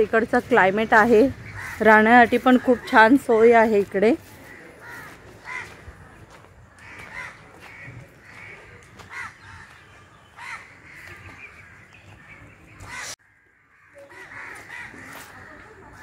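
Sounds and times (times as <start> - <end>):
faint outdoor background: 0.0 - 16.0
crows cawing: 1.3 - 3.5, 4.2 - 11.9, 12.9 - 16.0.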